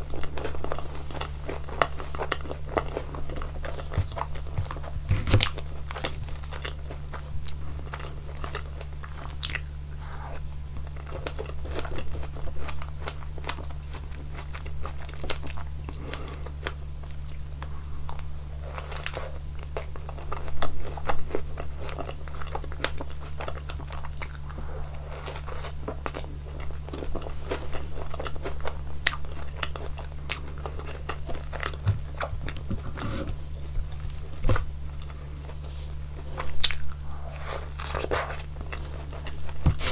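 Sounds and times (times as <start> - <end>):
crunchy chewing and biting: 0.0 - 39.9.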